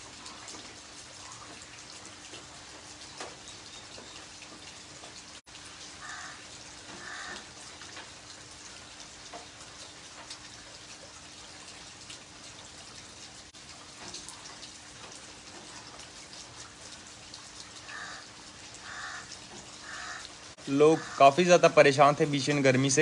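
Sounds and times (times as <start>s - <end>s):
rain on concrete: 0.0s - 23.0s.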